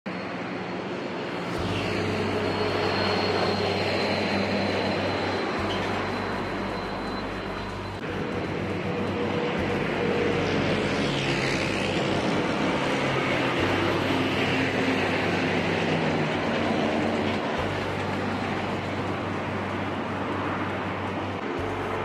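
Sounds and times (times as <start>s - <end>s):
steady traffic: 0.1s - 22.0s
tanker truck passing: 0.1s - 22.0s.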